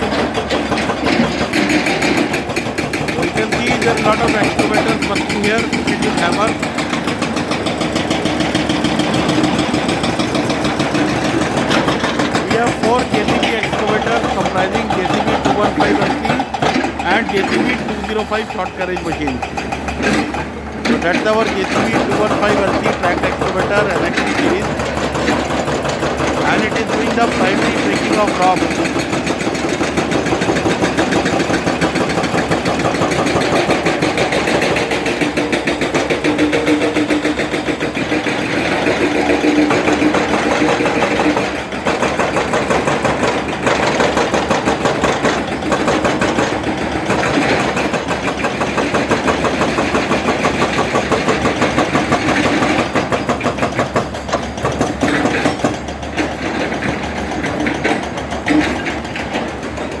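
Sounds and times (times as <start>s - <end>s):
excavator engine running: 0.0s - 60.0s
hydraulic hammer breaking rock: 0.0s - 60.0s.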